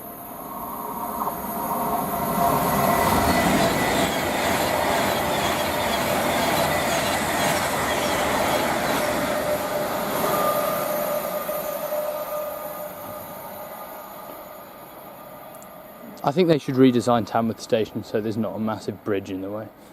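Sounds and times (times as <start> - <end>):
thin whining tones: 0.0 - 18.6
electric train passing: 0.0 - 19.9.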